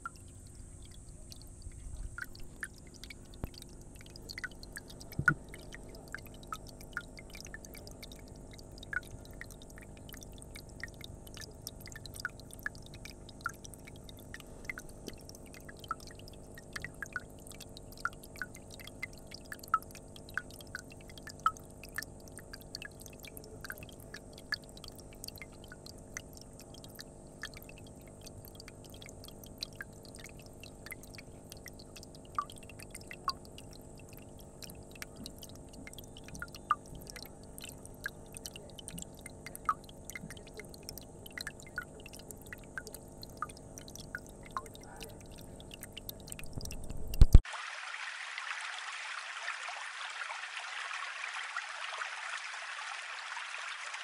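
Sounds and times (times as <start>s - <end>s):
faint steady hum: 0.0s - 54.0s
water dripping into a pond: 0.0s - 54.0s.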